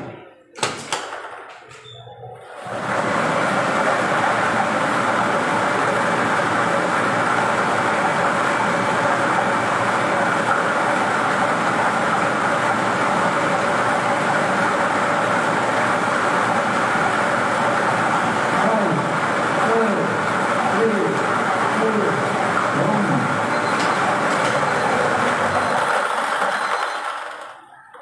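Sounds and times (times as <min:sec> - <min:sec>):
lottery machine blower rushing: 0:02.4 - 0:27.7.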